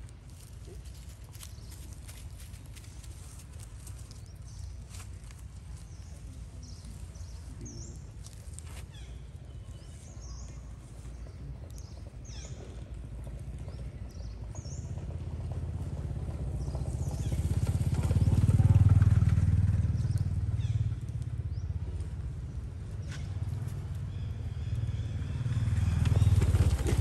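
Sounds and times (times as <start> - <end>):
vehicle engine rumble passing by: 0.0 - 27.0.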